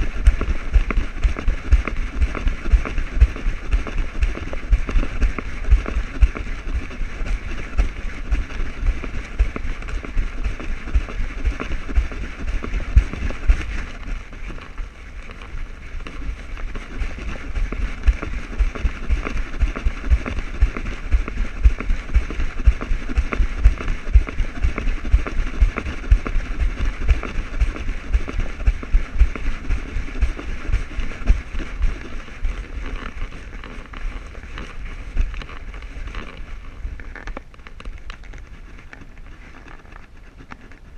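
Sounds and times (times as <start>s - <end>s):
low thumps from dog's stride: 0.0s - 36.2s
constant rushing hiss: 0.0s - 40.9s.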